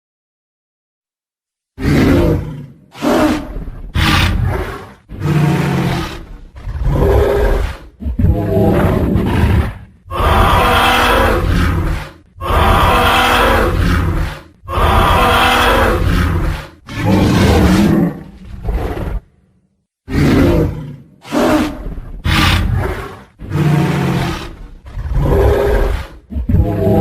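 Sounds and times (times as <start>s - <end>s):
dinosaur roars: 1.8s - 19.4s, 20.1s - 27.0s.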